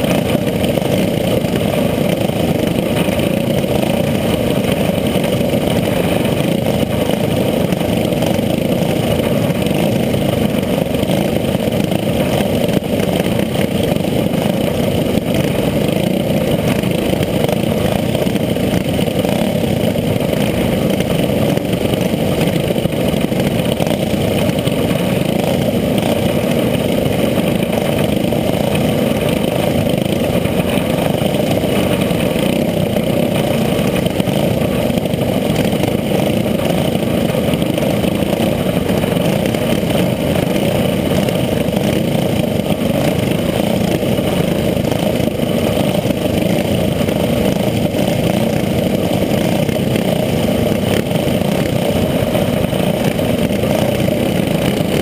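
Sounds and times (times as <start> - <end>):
go-kart engine droning: 0.0 - 55.0.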